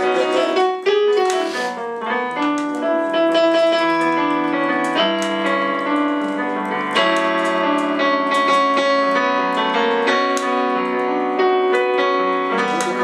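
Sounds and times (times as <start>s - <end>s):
electronic keyboard piano chords: 0.0s - 13.0s.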